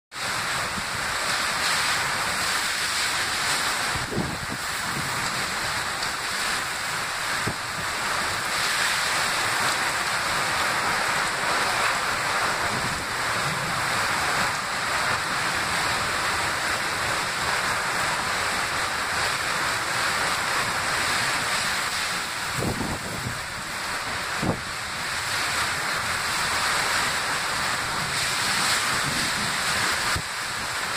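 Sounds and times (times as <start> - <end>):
torrential rain: 0.1 - 30.9
strong wind: 0.2 - 30.9.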